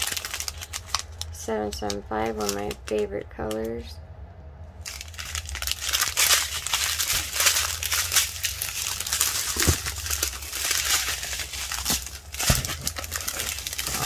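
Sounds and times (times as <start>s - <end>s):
plastic bags crinkling: 0.0s - 3.6s, 4.8s - 14.0s.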